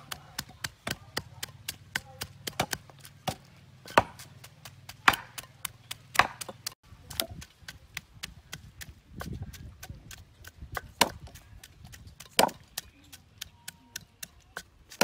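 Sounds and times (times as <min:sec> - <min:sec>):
pestle pounding in stone mortar: 0:00.0 - 0:15.0.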